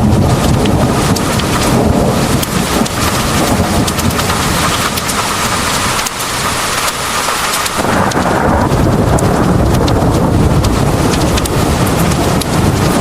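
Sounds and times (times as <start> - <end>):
heavy rain pouring: 0.0 - 13.0
low rumble of thunder: 0.0 - 13.0.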